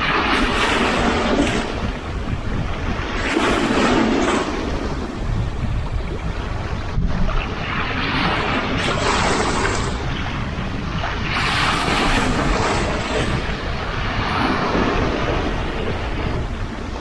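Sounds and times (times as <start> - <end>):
sea waves washing in: 0.0 - 17.0
wind rumbling on microphone: 0.0 - 17.0.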